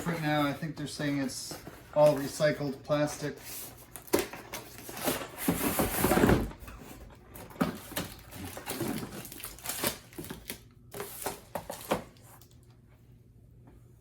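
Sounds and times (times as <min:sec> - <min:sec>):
packaging crinkling and rustling: 0:00.0 - 0:12.6.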